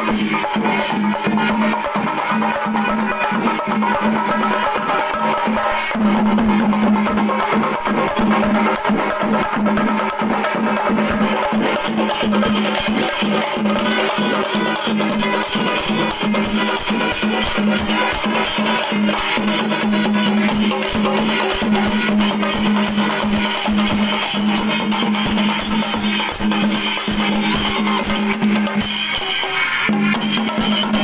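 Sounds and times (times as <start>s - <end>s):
drums beaten in fast rhythm: 0.0s - 31.0s.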